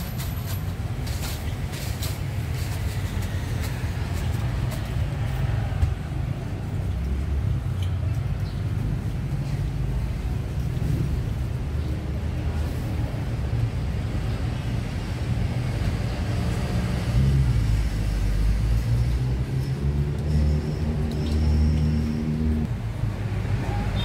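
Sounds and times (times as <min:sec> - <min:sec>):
road traffic rumbling: 0:00.0 - 0:24.0
vehicle engines passing close: 0:00.0 - 0:24.0.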